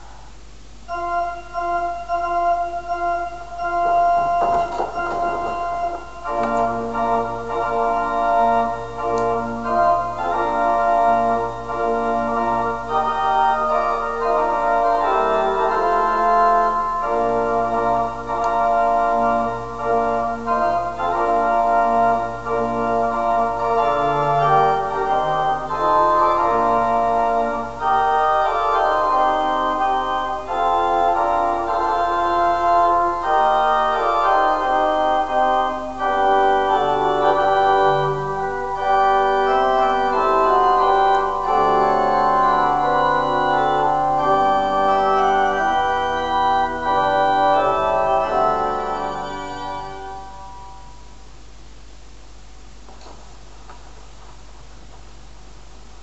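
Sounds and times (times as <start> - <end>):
organ playing held chords: 0.0 - 51.3.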